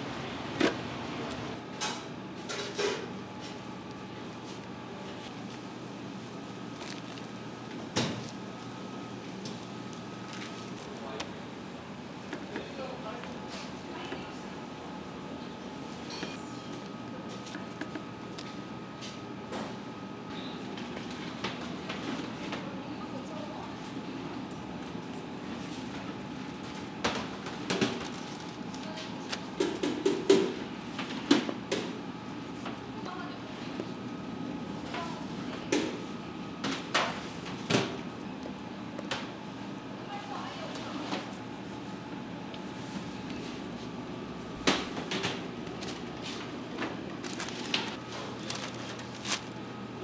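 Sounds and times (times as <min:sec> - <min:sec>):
steady background hum: 0:00.0 - 0:50.0.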